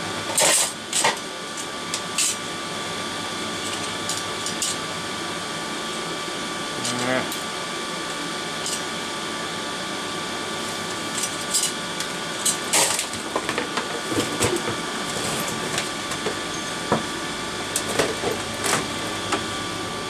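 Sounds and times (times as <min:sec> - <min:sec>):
extractor fan running: 0:00.0 - 0:20.0.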